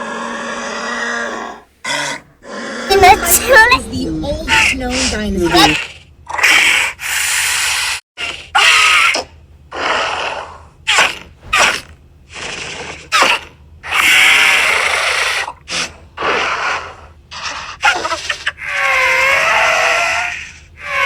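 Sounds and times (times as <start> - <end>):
dinosaur snorts and hissing calls: 0.0 - 3.0, 5.8 - 21.0.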